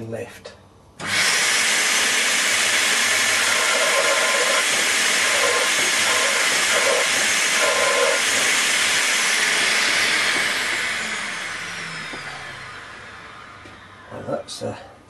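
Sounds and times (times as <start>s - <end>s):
motor winding down whine: 1.0s - 14.8s
vacuum cleaner running: 1.0s - 15.0s.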